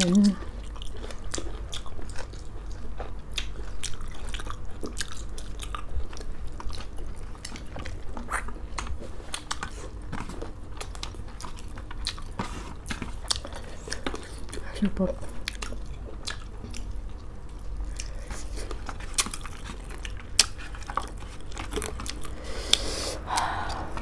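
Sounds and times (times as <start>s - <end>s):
people chewing food: 0.0s - 24.0s
steady low hum: 0.0s - 24.0s.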